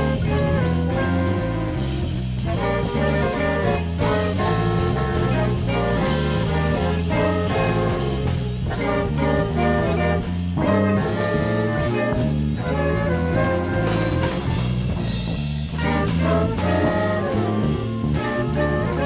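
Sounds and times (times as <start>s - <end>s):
instrumental jazz music: 0.0s - 19.0s.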